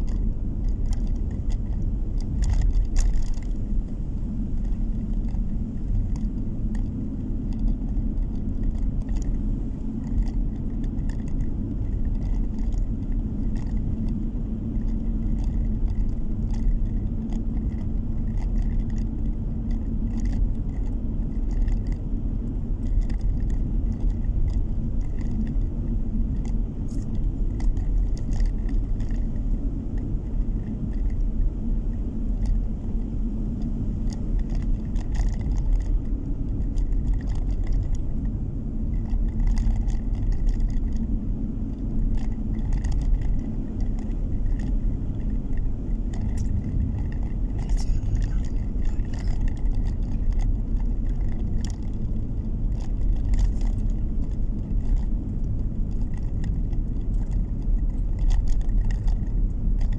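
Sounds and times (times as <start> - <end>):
car engine and tyre rumble: 0.0 - 59.9
light ticks and rattles: 0.0 - 59.9.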